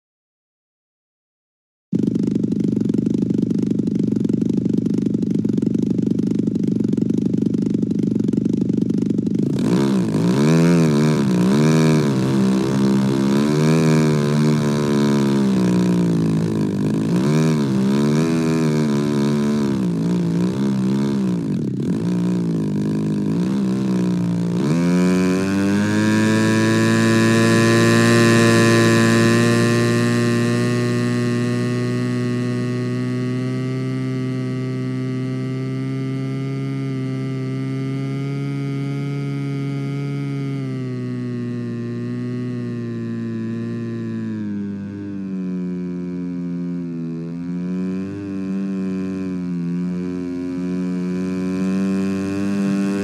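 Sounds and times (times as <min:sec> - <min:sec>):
model airplane engine revving: 0:02.0 - 0:53.0.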